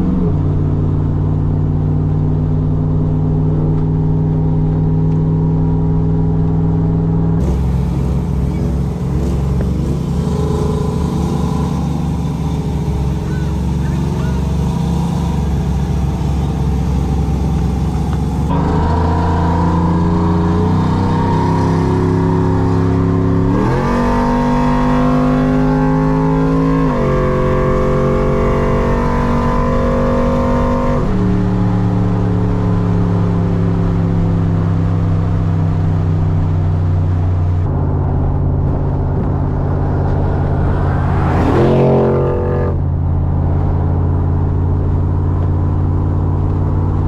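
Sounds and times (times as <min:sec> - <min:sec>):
truck engine accelerating: 0:00.0 - 0:47.0.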